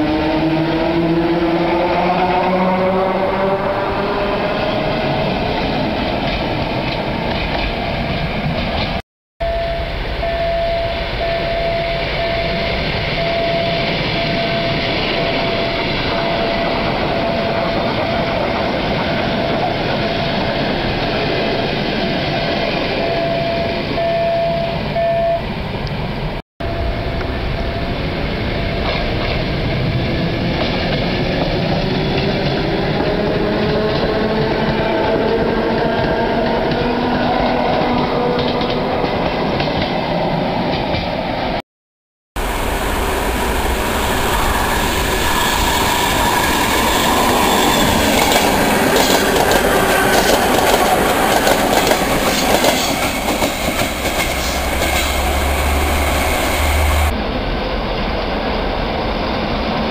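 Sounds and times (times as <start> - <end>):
train rail running noise: 0.0 - 41.6, 42.4 - 59.9.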